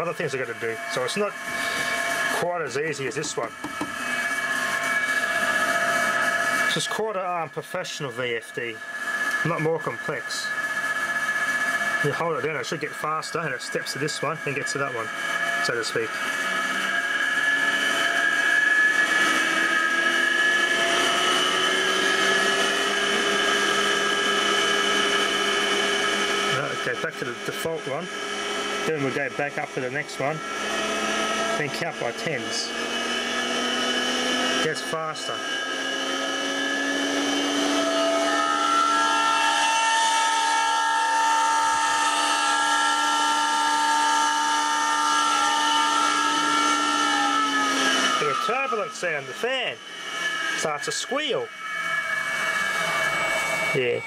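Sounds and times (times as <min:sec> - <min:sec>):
cooling fan squeal: 0:00.0 - 0:54.0
electric motor whine rising: 0:00.0 - 0:54.0.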